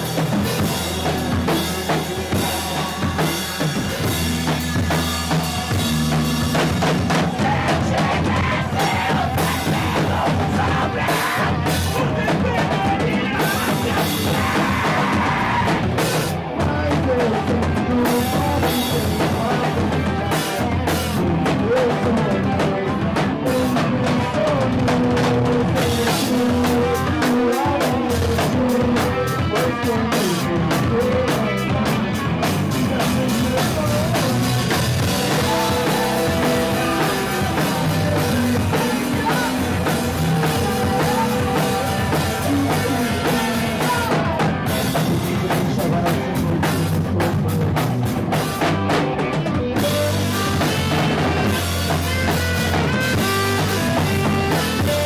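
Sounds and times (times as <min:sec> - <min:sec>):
drum kit: 0:00.0 - 0:55.0
electric guitar: 0:00.0 - 0:55.0
rock band playing live: 0:00.0 - 0:55.0.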